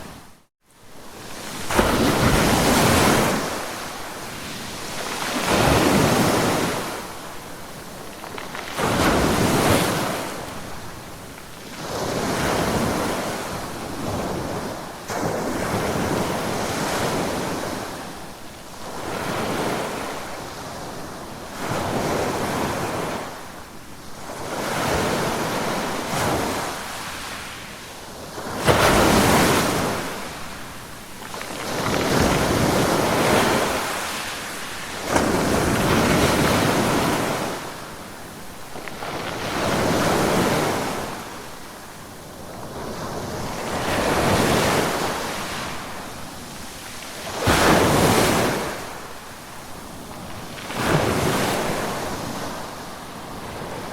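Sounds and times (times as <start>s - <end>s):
waves crashing loudly: 1.0s - 18.0s, 24.4s - 27.8s, 28.4s - 41.8s, 42.4s - 53.9s
ocean waves breaking: 1.1s - 18.0s, 24.3s - 53.9s.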